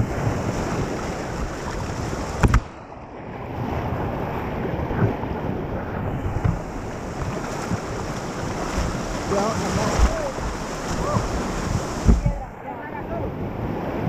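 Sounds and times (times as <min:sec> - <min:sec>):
river water rushing and splashing: 0:00.0 - 0:14.0
wind buffeting microphone: 0:00.0 - 0:14.0.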